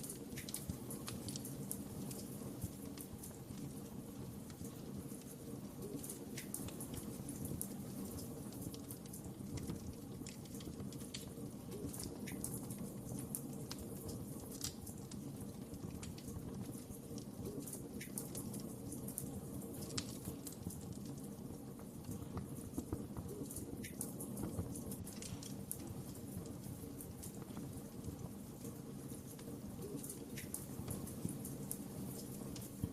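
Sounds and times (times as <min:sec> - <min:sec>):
fire crackling and popping: 0:00.0 - 0:32.9
low rumble of flames: 0:00.0 - 0:32.9.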